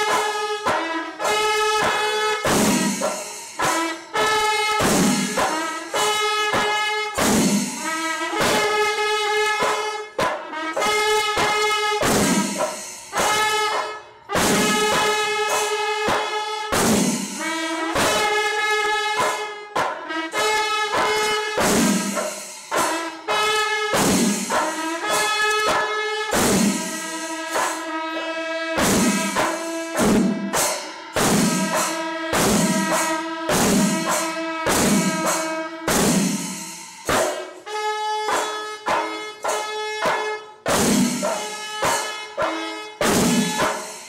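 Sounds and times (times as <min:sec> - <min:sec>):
cymbals striking: 0:00.0 - 0:44.0
drums striking: 0:00.0 - 0:44.0.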